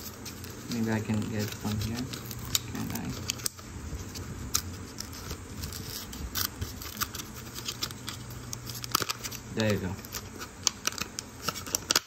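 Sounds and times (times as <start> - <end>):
cardboard packaging tearing: 0.0 - 12.0.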